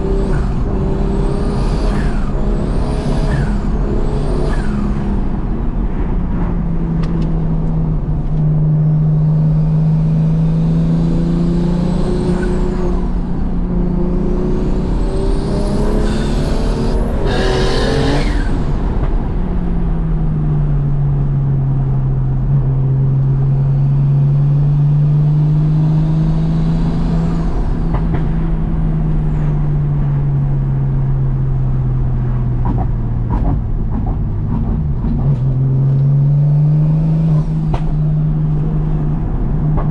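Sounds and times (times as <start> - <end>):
car engine revving: 0.0 - 20.0, 23.5 - 30.4, 31.0 - 39.9.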